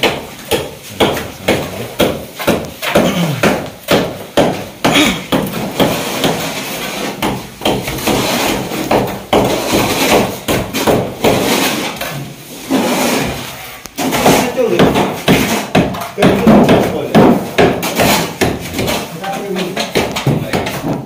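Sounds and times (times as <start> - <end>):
trowels knocking: 0.0 - 21.0
trowels scraping plaster: 0.0 - 21.0.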